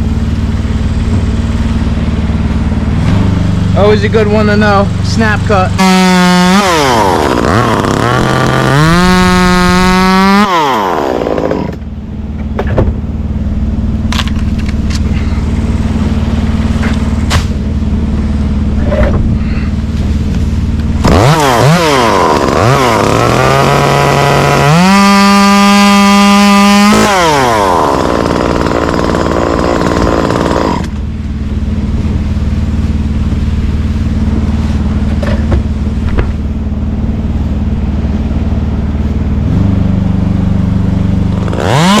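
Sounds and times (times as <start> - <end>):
chainsaw revving and idling: 0.0 - 11.9, 13.6 - 18.8, 19.4 - 35.5, 39.2 - 42.0.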